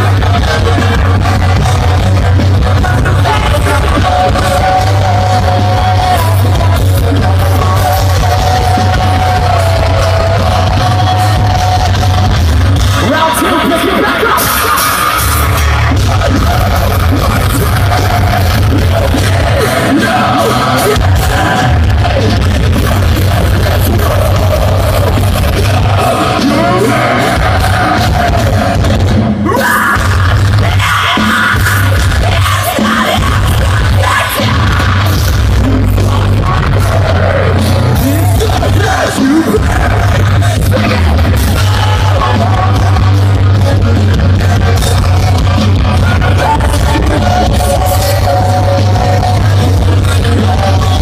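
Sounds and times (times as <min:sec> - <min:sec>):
metalcore band playing live: 0:00.0 - 0:51.0
singer singing and yelling: 0:00.0 - 0:51.0.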